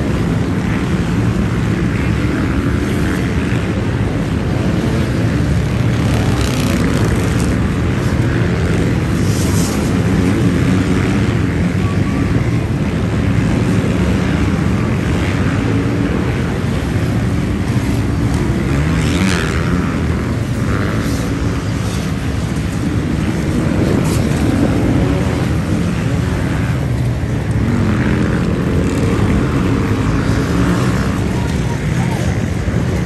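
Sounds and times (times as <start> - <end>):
dirt bike engines passing: 0.0 - 33.0.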